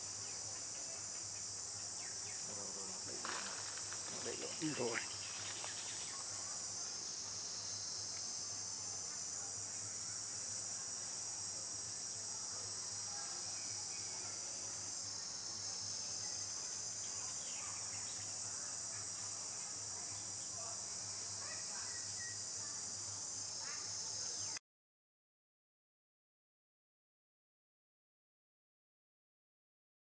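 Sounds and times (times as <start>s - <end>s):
high-pitched insect chorus: 0.0s - 24.6s.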